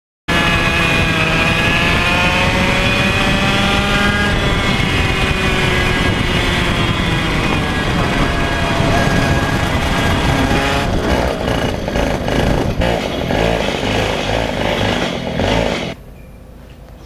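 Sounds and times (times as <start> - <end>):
kart engine at high revs: 0.3 - 16.0
wind noise: 0.3 - 16.3.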